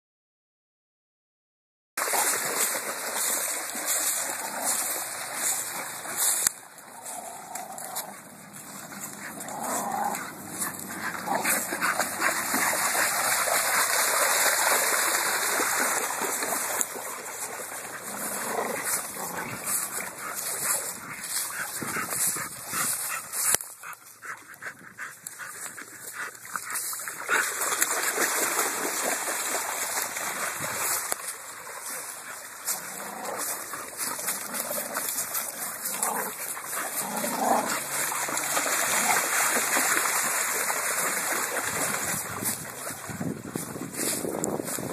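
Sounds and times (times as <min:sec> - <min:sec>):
dogs splashing through water: 0:02.0 - 0:44.9.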